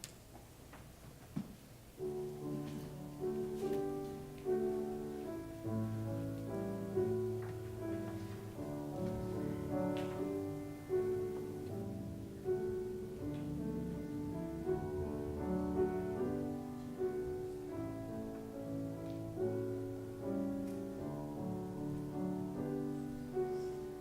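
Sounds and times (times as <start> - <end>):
slow hymn-like piano piece: 0.8 - 24.0.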